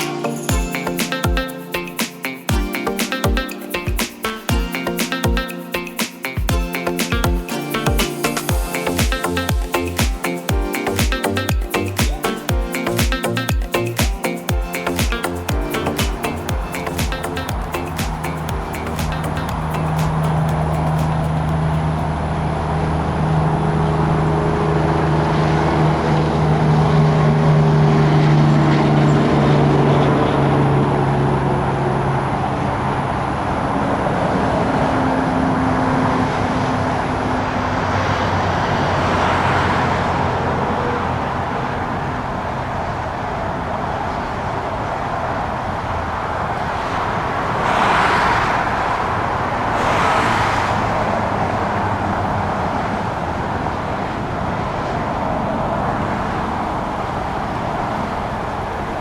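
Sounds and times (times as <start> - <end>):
rushing noise: 0.0 - 59.0
engine humming: 3.8 - 59.0.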